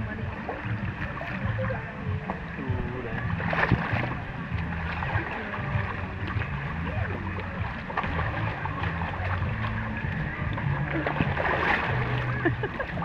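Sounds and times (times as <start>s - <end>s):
water flowing and sloshing: 0.0s - 13.0s.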